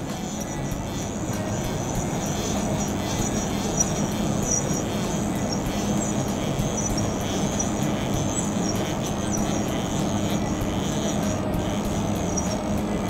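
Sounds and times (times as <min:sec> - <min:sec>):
faint regular ticks: 0:00.0 - 0:13.0
milling machine table whirring: 0:00.0 - 0:13.0.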